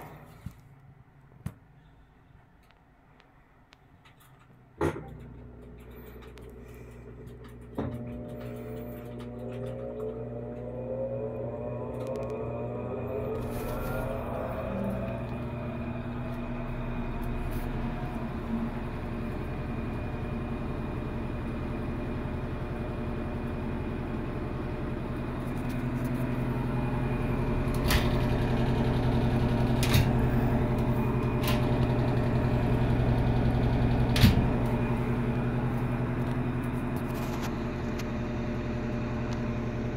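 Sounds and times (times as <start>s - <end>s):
washing machine motor hum: 4.1s - 39.9s.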